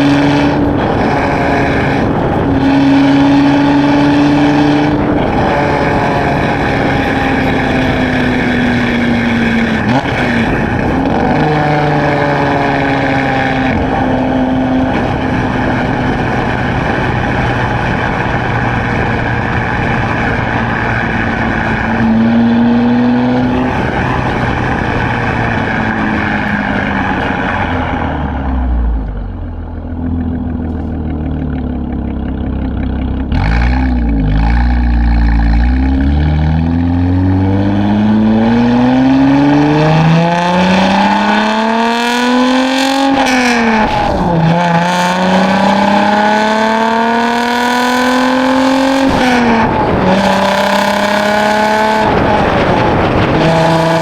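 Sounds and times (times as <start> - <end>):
car exhaust engine note: 0.0 - 54.0
road and wind noise: 0.0 - 54.0.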